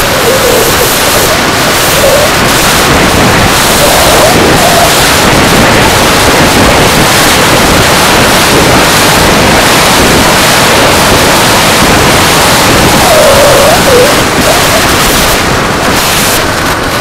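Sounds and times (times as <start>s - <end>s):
wind rushing over camera: 0.0s - 17.0s.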